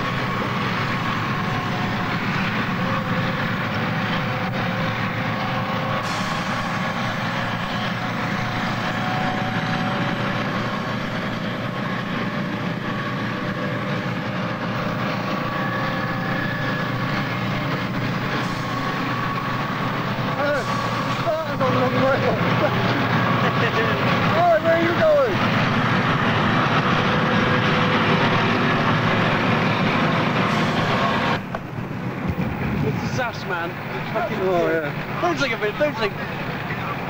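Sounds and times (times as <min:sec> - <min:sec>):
tracked vehicles running: 0:00.0 - 0:37.0.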